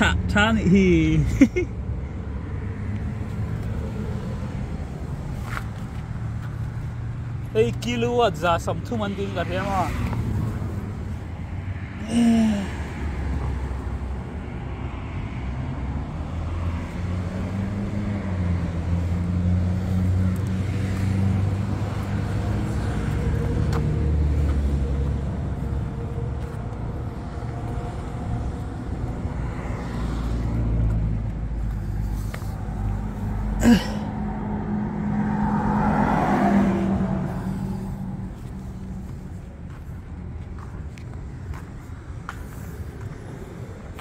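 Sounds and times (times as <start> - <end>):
car road and tyre noise: 0.0 - 44.0.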